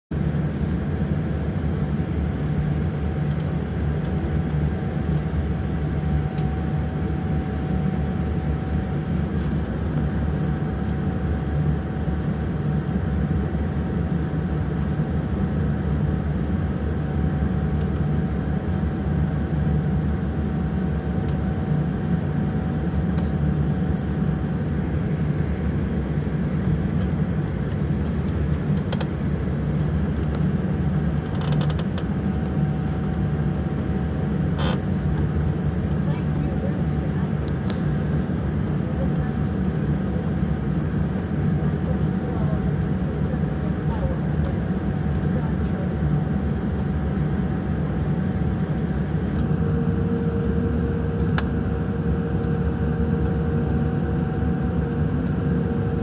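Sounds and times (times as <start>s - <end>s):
jet engines rumbling: 0.2s - 56.0s.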